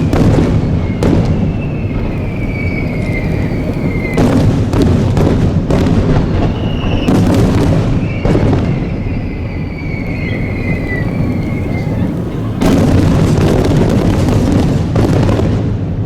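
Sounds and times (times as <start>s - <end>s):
booming shells rumble: 0.0s - 16.0s
fireworks bursting: 0.0s - 16.0s
fireworks whistling: 0.0s - 16.0s.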